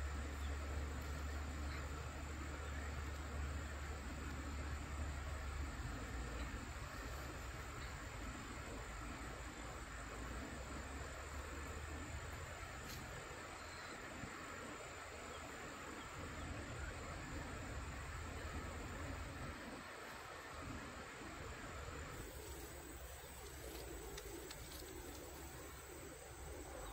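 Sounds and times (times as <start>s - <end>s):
insects chirping: 0.0s - 26.9s.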